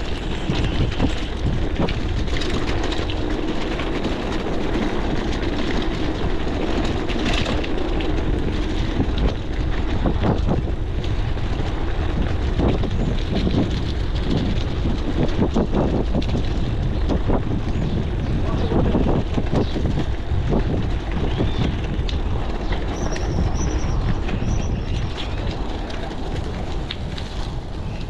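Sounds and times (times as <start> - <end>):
bike rattling and clicking: 0.0 - 28.0
bike tyres rumbling on cobblestones: 0.0 - 28.0.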